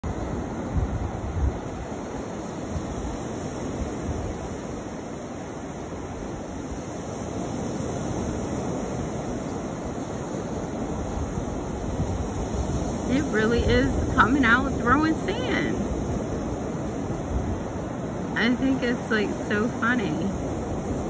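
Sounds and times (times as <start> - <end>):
surf washing on beach: 0.0 - 21.0
wind rumble on microphone: 0.0 - 21.0.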